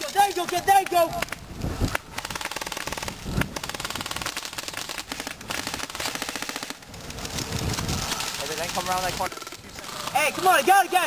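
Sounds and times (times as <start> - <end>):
airsoft guns firing full auto: 0.0 - 11.0.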